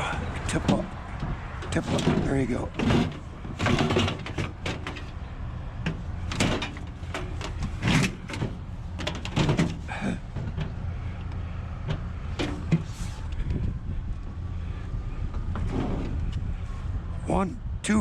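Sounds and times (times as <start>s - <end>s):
scrap knocking and clunking: 0.0s - 16.8s
steady low rumble: 0.0s - 18.0s.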